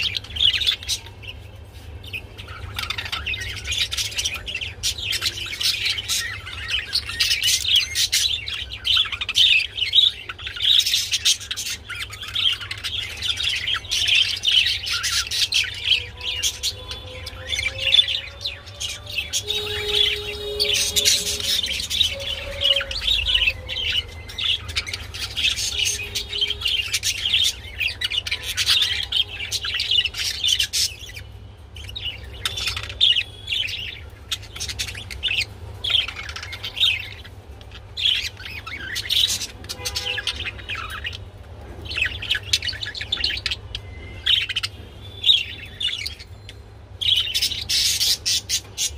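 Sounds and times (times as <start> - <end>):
budgerigars chirping and warbling: 0.0 - 48.9.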